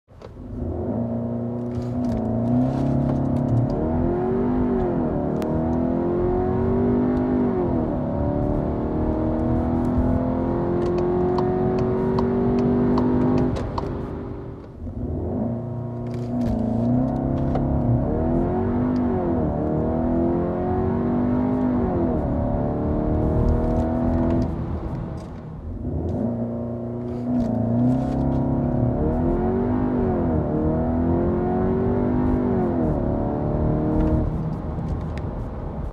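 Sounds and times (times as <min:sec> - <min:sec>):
car engine revving: 0:00.4 - 0:35.9.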